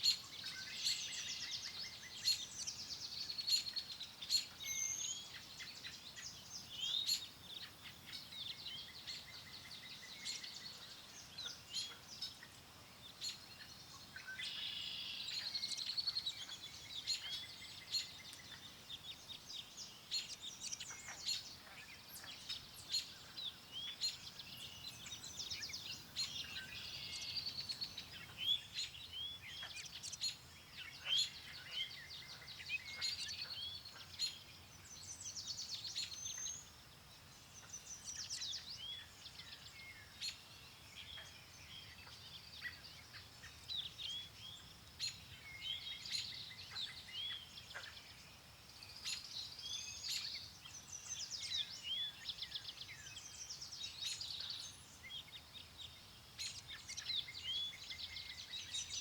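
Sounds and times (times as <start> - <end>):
faint steady wind: 0.0 - 59.0
songbirds chirping: 0.0 - 59.0.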